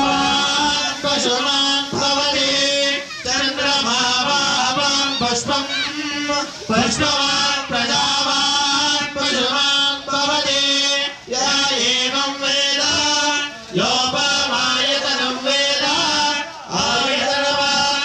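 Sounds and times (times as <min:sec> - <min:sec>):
men chanting mantras: 0:00.0 - 0:18.0.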